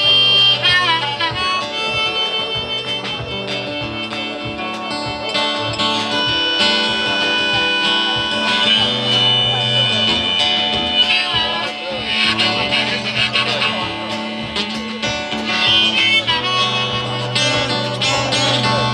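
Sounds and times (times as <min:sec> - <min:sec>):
acoustic guitar: 0:00.0 - 0:18.9
drum kit steady beat: 0:00.0 - 0:18.9.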